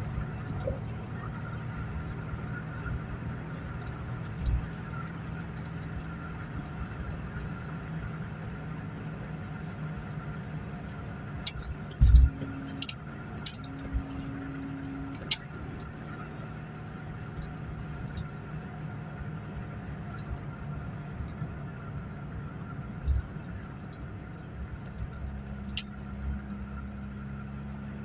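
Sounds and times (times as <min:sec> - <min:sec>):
car engine cruising: 0:00.0 - 0:28.0
tyre and road noise: 0:00.0 - 0:28.0.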